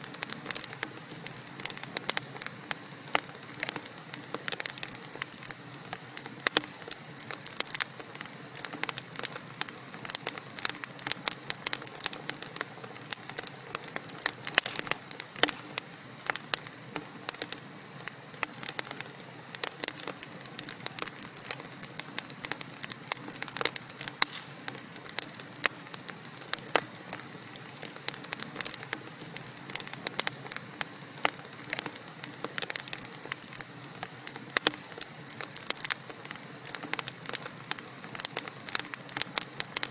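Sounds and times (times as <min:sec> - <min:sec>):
logs crackling and popping: 0:00.0 - 0:39.9
low hiss of burning: 0:00.0 - 0:39.9.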